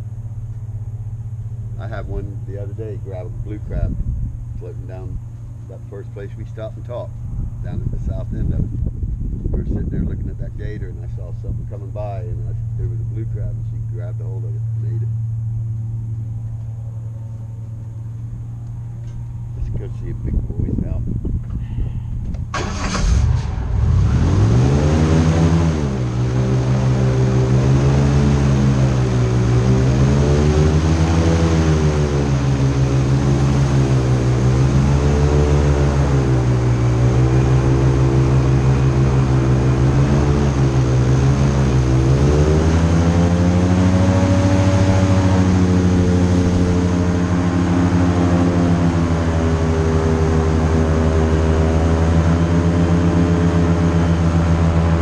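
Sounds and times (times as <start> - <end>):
airboat engine and propeller: 0.0 - 55.0.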